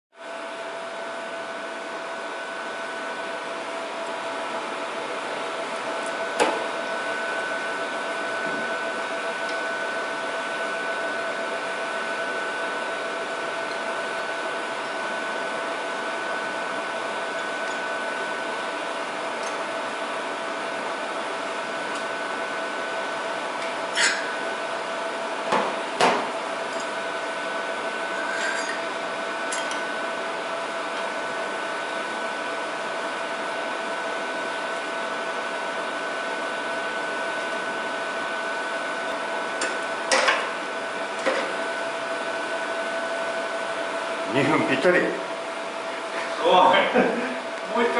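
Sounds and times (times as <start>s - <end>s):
machinery hum with two-tone whine: 0.2s - 47.9s.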